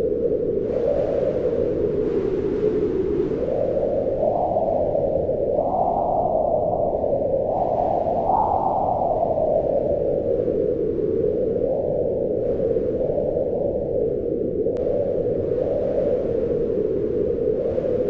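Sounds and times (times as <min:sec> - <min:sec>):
wind howling: 0:00.0 - 0:18.0.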